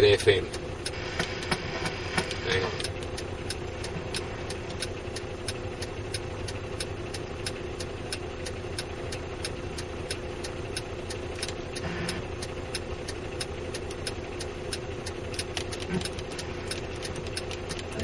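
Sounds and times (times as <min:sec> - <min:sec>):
diesel truck engine running: 0:00.0 - 0:18.0
light regular ticking: 0:00.0 - 0:18.0.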